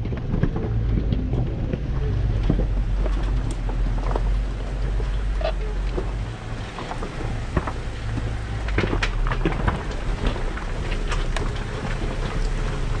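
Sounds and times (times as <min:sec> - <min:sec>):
rocks knocking under tyres: 0:00.0 - 0:13.0
suspension jolting: 0:00.0 - 0:13.0
vehicle engine rumble: 0:00.0 - 0:13.0.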